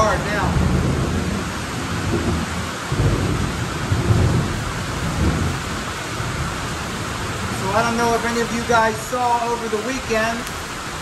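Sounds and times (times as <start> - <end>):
heavy rain: 0.0 - 11.0
low rumbles: 0.0 - 11.0.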